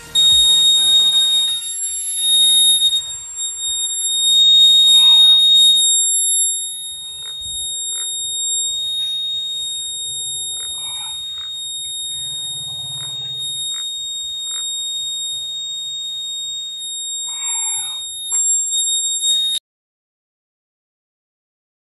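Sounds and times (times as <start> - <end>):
buzzer continuous high tone: 0.0 - 19.6.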